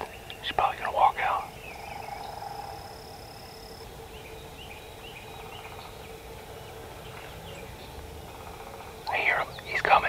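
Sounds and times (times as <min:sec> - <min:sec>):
faint bird chirps: 0:00.0 - 0:10.0
low background hiss: 0:00.0 - 0:10.0.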